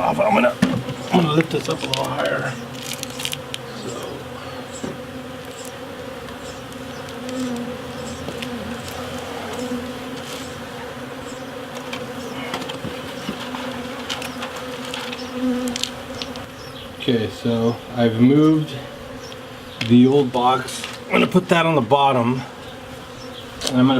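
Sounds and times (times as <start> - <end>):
honeybees buzzing: 0.0 - 23.9.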